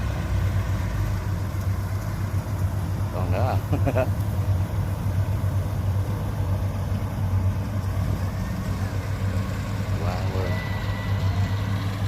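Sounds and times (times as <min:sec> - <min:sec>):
combine harvester engine humming: 0:00.0 - 0:12.0.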